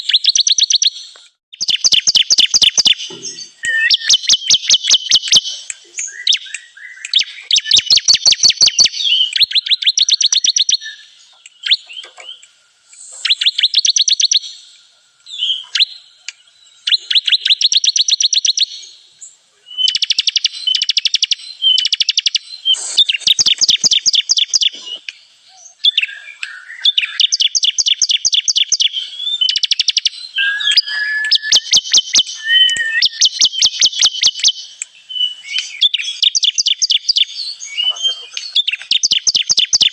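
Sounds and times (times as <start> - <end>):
bird song high trills: 0.0 - 39.9.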